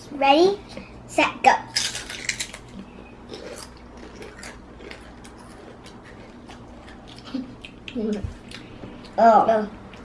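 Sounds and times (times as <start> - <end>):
children chewing potato chips: 1.7 - 10.0.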